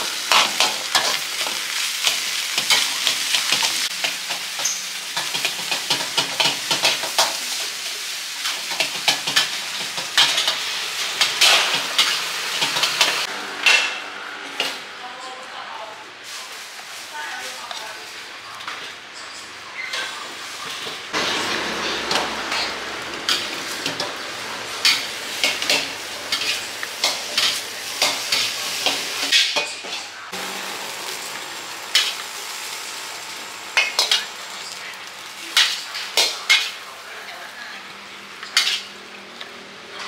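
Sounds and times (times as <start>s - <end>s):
food sizzling in a wok: 0.0s - 40.0s.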